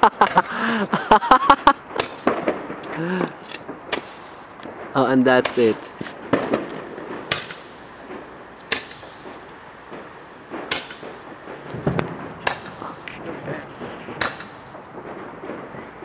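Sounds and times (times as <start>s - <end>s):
fireworks banging: 0.0s - 16.0s.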